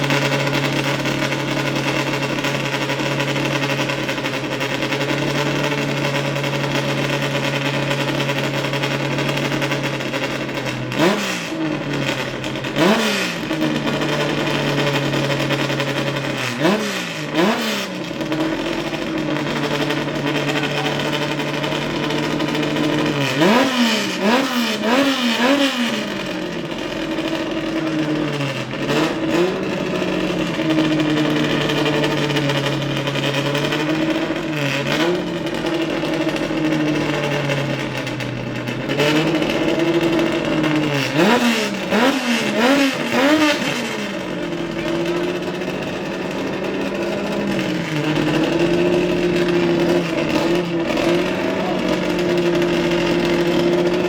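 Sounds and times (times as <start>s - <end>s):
race car engine idling and revving: 0.0s - 54.0s.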